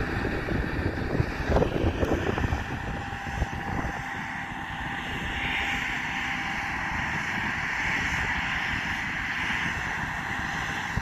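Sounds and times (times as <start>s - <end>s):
combine harvester drone and hiss: 0.0s - 11.0s
wind buffeting microphone: 0.0s - 11.0s.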